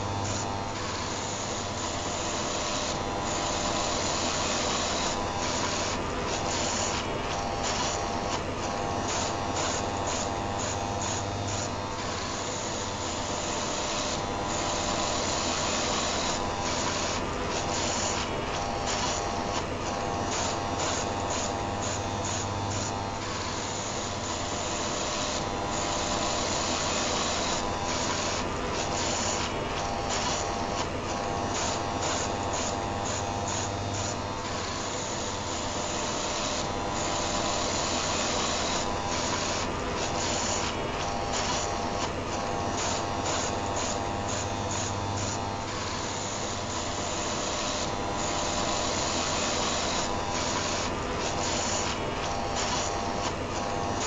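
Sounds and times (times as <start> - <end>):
electric heater hum: 0.0 - 54.0
electric shaver buzzing: 0.0 - 54.0.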